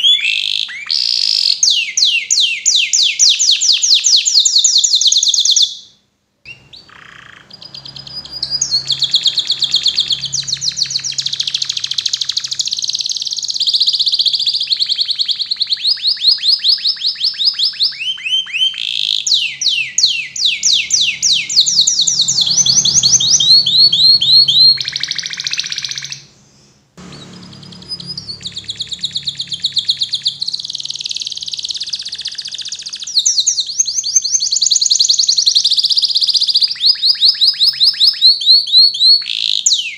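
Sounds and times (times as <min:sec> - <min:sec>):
canary singing trills: 0:00.0 - 0:05.9, 0:06.5 - 0:26.4, 0:27.0 - 0:39.9.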